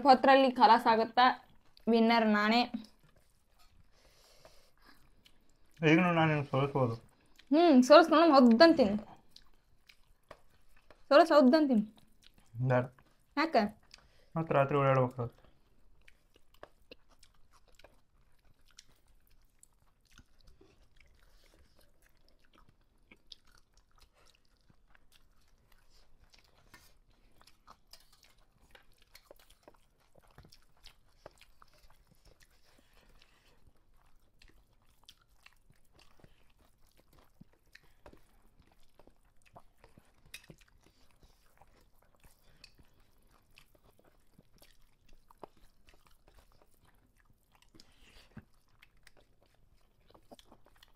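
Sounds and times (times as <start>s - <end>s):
people chewing: 0.0s - 50.9s.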